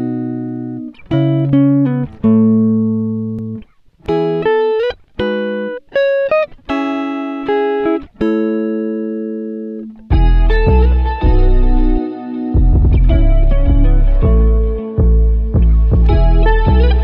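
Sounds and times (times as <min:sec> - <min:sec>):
guitar playing: 0:00.0 - 0:17.0.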